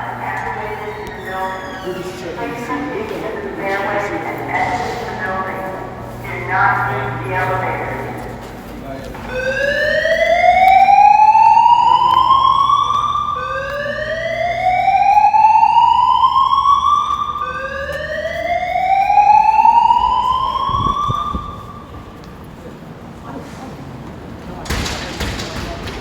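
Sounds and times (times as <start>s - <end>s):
fire alarm whoop tone: 0.0s - 8.4s, 9.2s - 22.3s.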